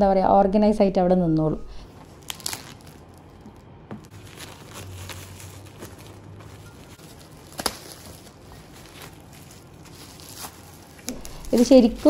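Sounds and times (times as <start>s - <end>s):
plastic shrink wrap crinkling: 1.9s - 12.0s.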